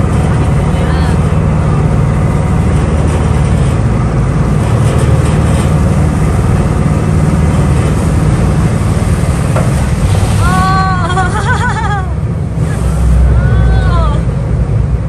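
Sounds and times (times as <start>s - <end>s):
engine deep rumble: 0.0s - 15.0s.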